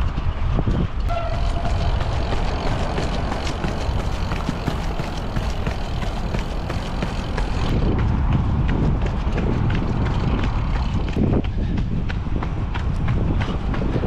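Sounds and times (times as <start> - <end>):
wind rumble on microphone: 0.0 - 14.0
running footsteps on wet paving: 1.2 - 14.0.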